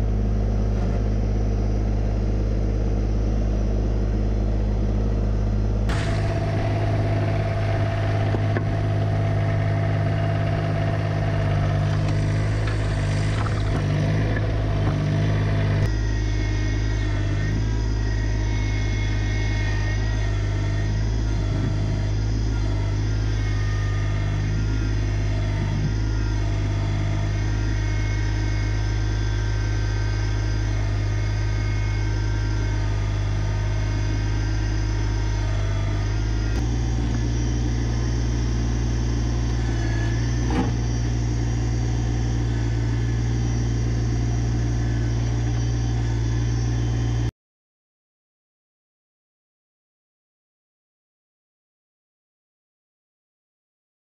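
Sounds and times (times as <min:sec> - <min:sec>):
tractor diesel engine running: 0:00.0 - 0:47.3.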